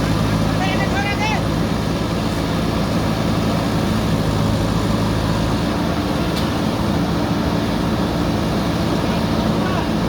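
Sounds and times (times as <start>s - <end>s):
backhoe diesel engine running: 0.0s - 10.0s.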